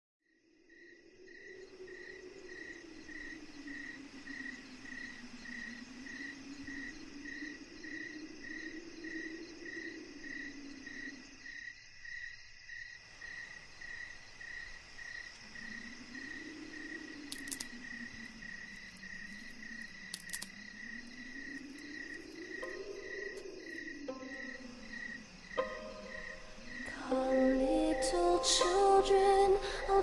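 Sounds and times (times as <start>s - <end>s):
crickets chirping: 0.3s - 30.0s.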